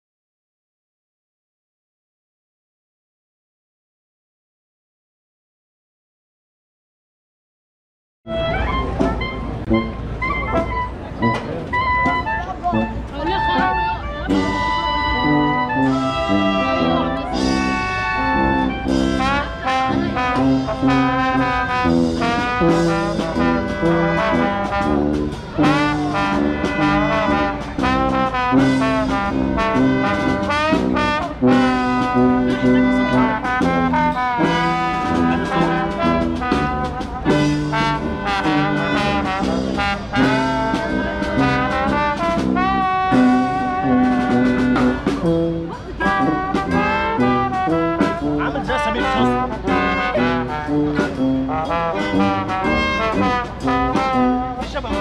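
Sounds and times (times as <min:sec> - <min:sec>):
jazzy brass music: 0:08.3 - 0:55.0.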